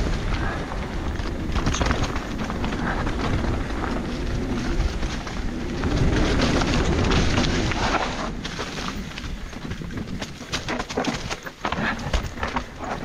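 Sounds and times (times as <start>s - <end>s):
bike rattling and knocking: 0.0s - 13.0s
tyres rolling over dirt and stones: 0.0s - 13.0s
wind rumble on microphone: 0.0s - 13.0s.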